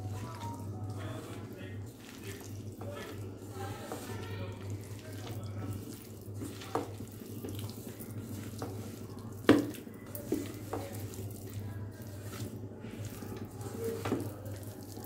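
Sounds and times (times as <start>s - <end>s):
hand squelching wet marinade: 0.0s - 15.0s.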